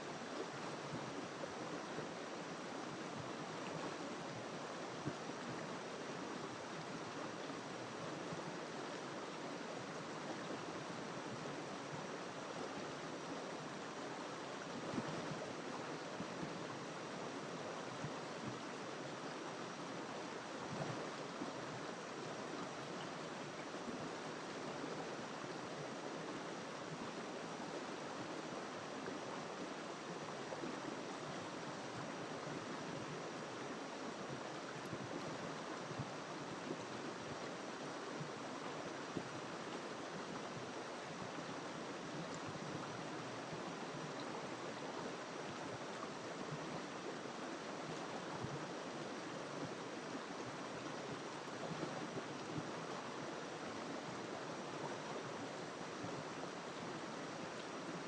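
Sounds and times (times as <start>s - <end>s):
river water rushing over stones: 0.0s - 58.0s.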